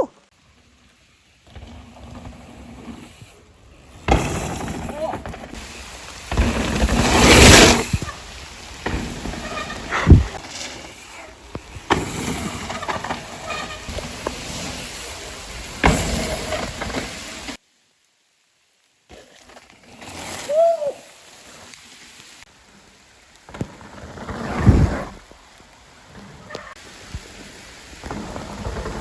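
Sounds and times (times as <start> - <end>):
bike tyre rumble: 0.3 - 17.6, 19.1 - 29.0
rain and wind on microphone: 4.6 - 29.0.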